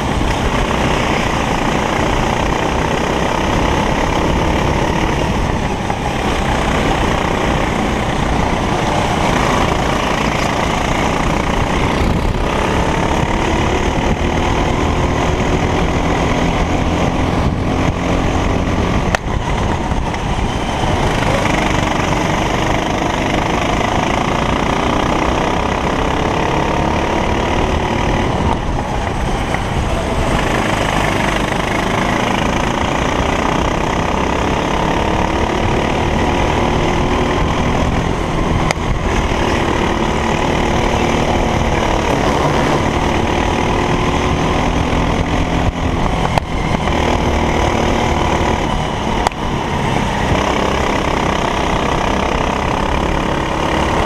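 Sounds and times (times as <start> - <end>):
dense rushing noise: 0.0 - 54.0
racing kart engine revving: 0.0 - 54.0.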